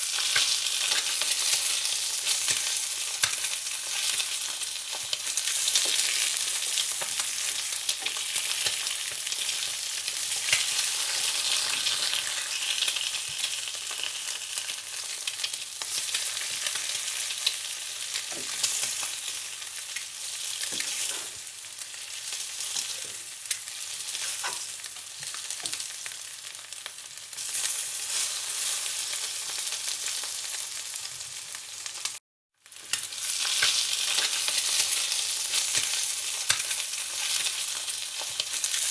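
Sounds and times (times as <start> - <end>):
food frying with crackles: 0.0 - 38.9.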